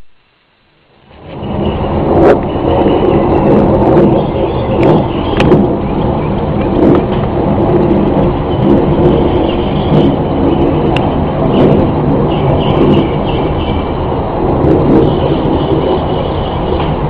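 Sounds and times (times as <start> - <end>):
low rumbling drone: 0.0 - 17.0.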